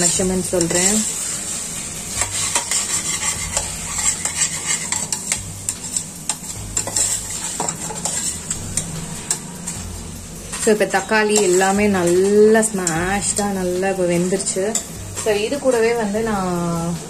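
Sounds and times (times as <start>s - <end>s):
metal spatula scraping a pot: 0.0s - 16.0s
vegetables sizzling in oil: 0.0s - 17.0s.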